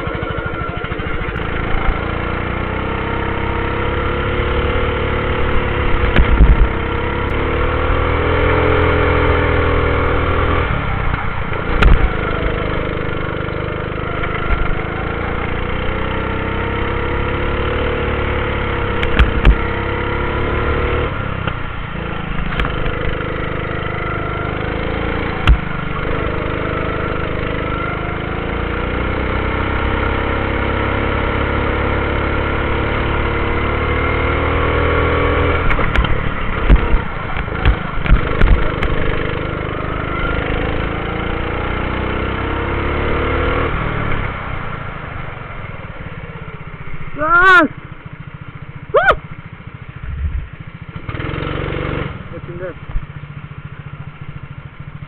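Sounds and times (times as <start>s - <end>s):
go-kart engine accelerating: 0.0s - 55.0s.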